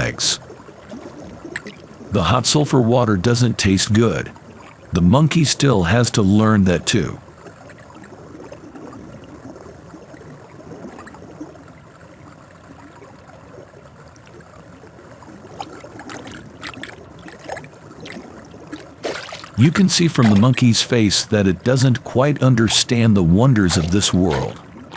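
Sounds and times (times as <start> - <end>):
water trickling and gurgling: 0.0 - 24.9.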